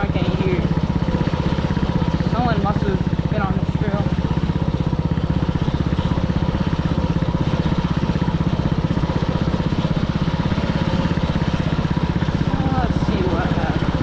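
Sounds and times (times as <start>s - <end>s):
dirt bike engine idling: 0.0s - 14.0s.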